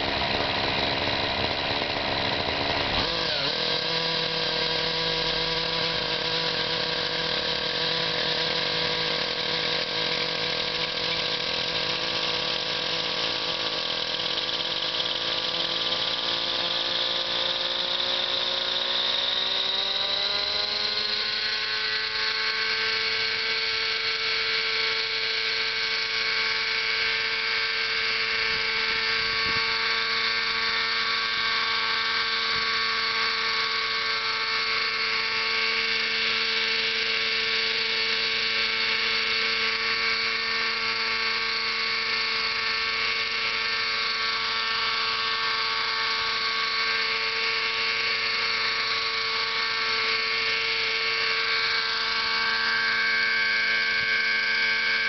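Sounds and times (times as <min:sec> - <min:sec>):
model engine high-pitched whine: 0:00.0 - 0:55.0
rotor blades whirring: 0:00.0 - 0:55.0.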